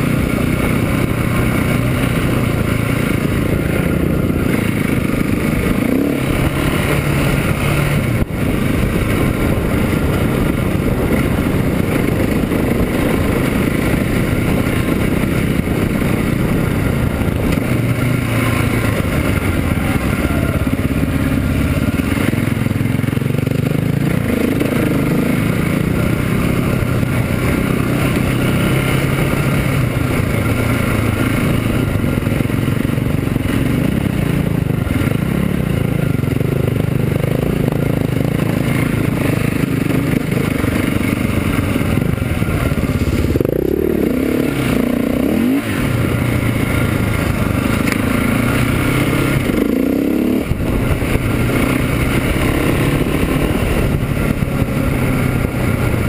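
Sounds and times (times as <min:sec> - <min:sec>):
motorcycle engine running: 0:00.0 - 0:56.0
wind and trail noise: 0:00.0 - 0:56.0.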